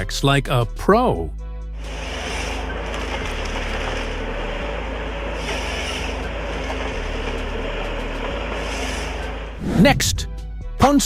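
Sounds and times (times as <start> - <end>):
heavy machine engine humming: 1.6 - 10.8.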